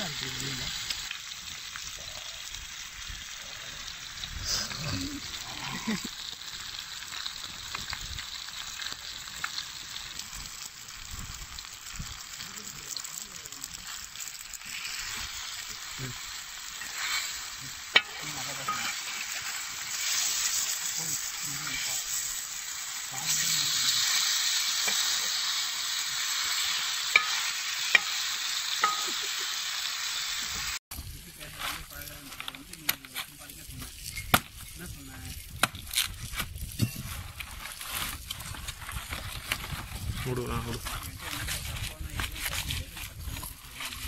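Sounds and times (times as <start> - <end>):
fish frying in sizzling oil: 0.0 - 44.0.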